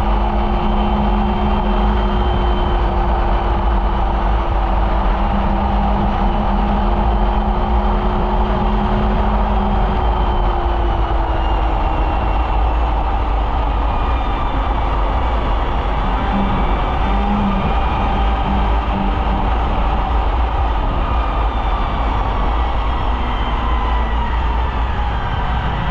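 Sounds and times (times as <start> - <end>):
snowmobile engine running: 0.0 - 25.9.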